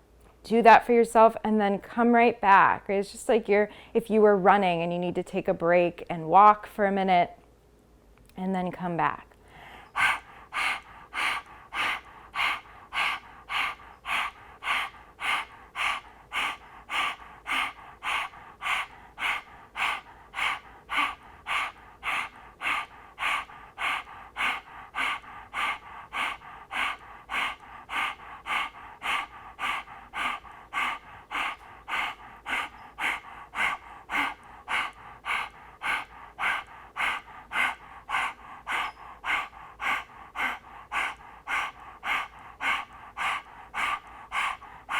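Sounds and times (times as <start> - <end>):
woman panting rhythmically: 0.0 - 7.4, 8.6 - 44.9.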